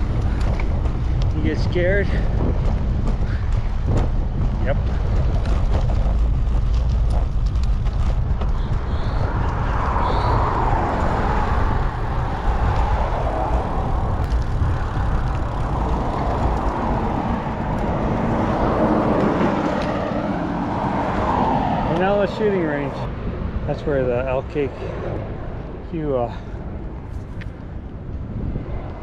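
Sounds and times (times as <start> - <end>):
road traffic passing: 0.0 - 29.0
wind buffeting microphone: 0.0 - 29.0.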